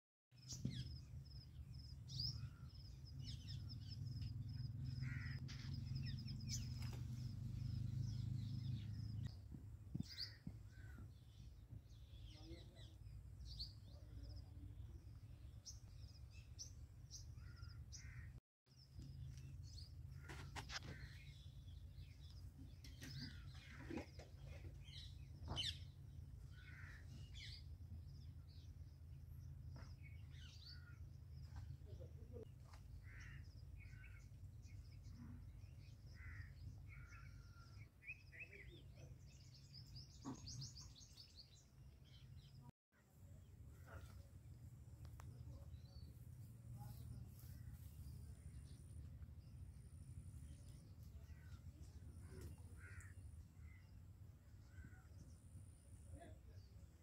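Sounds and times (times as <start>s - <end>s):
birds chirping: 0.3s - 57.0s.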